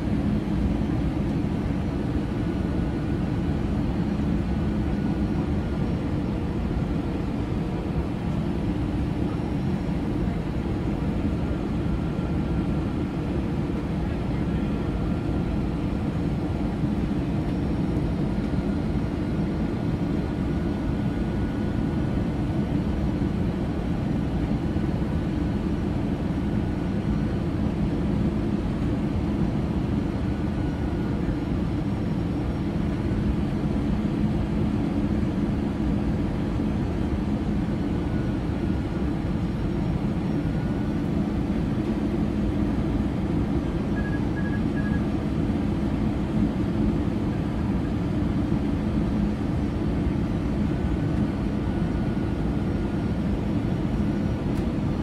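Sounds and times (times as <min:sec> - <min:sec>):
jet engine hum: 0:00.0 - 0:55.0.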